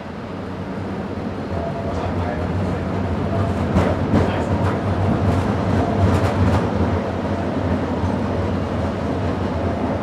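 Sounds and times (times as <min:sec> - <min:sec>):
streetcar rumbling on rails: 0:00.0 - 0:10.0.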